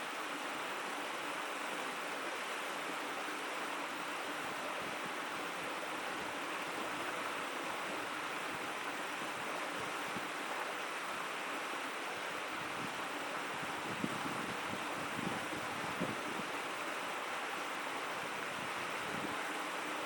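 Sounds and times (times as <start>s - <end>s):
stream babbling: 0.0s - 20.0s.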